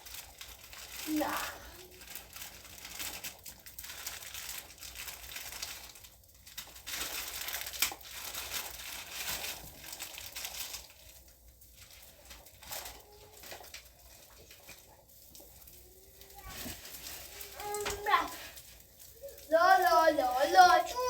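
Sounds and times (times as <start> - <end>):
crinkling and rustling: 0.0 - 21.0
sharp crackle: 0.0 - 21.0.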